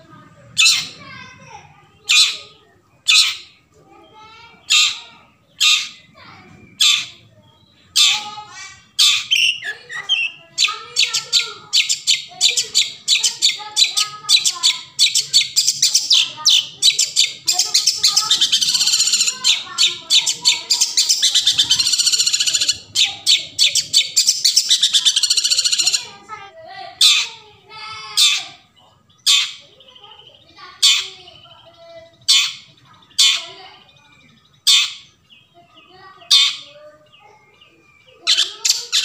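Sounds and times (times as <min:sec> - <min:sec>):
bird chattering song: 0:00.0 - 0:39.0.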